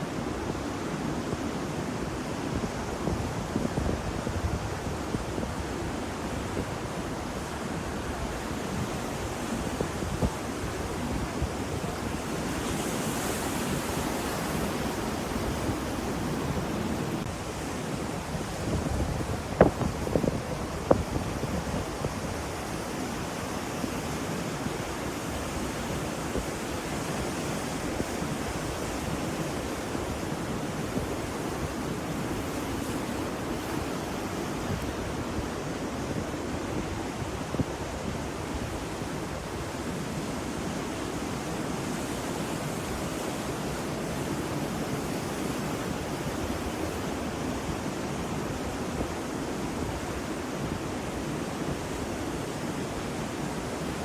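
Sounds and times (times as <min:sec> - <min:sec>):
ocean surf: 0:00.0 - 0:54.0.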